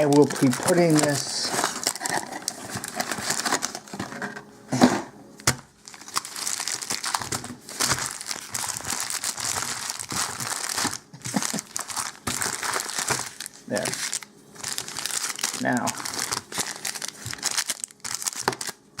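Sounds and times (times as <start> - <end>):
foil wrappers crinkling: 0.0 - 4.1, 5.4 - 19.0.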